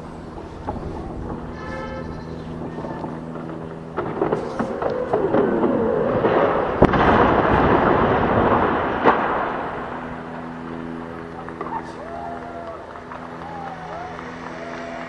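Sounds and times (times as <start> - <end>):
sharp crack: 2.6 - 15.0.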